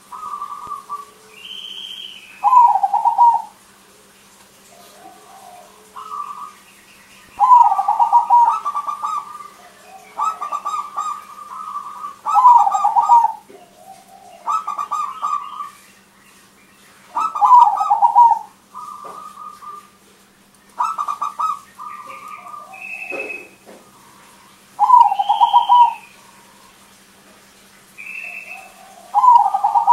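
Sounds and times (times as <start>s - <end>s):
dove cooing: 0.0s - 6.7s, 7.3s - 15.8s, 17.0s - 20.1s, 20.8s - 26.9s, 28.0s - 29.9s.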